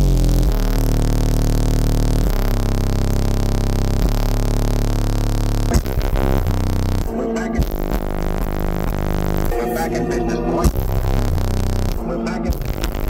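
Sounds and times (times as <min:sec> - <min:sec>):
deep sustained bass notes: 0:00.0 - 0:13.0.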